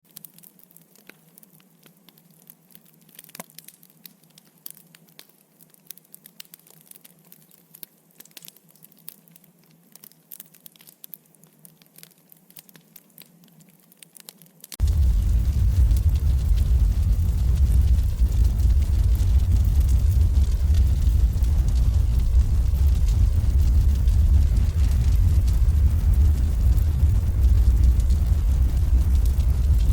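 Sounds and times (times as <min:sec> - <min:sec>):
wood fire crackling and popping: 0:00.1 - 0:29.9.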